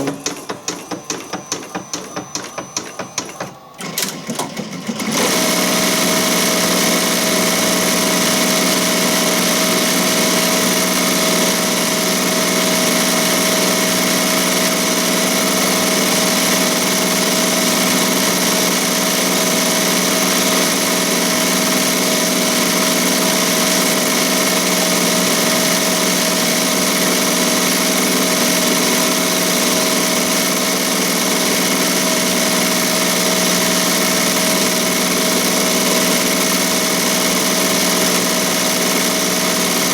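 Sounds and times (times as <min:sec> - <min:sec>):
embroidery machine whirring: 0:00.0 - 0:39.9.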